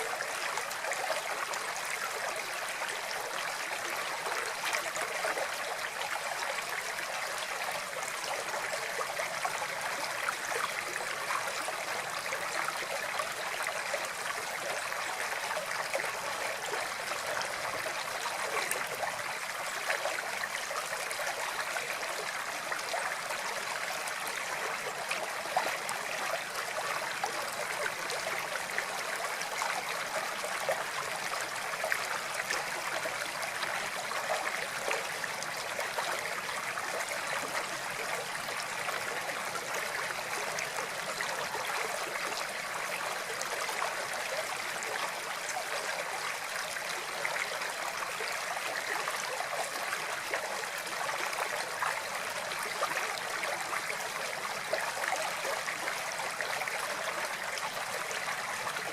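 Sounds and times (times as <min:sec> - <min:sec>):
water flowing over stones: 0:00.0 - 0:58.9.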